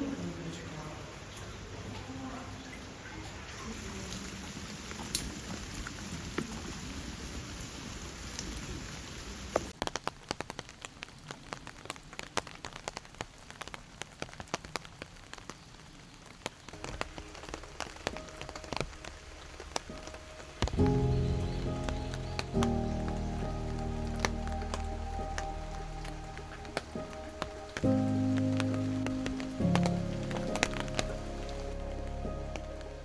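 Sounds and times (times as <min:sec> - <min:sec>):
rain falling steadily: 0:00.0 - 0:33.0
raindrops ticking and dripping: 0:00.0 - 0:33.0.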